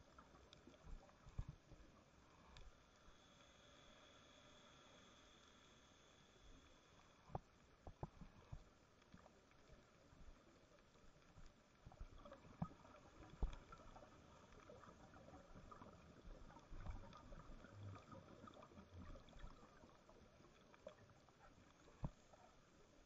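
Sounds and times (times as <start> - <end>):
faint clicks: 0.0 - 23.0
muffled underwater ambience: 0.0 - 23.0.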